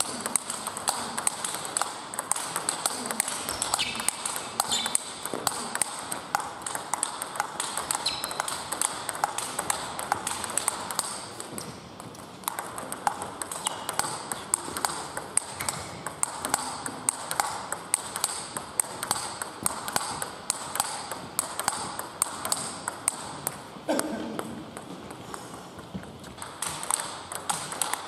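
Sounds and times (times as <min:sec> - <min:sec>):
table tennis ball clicking: 0:00.0 - 0:28.0.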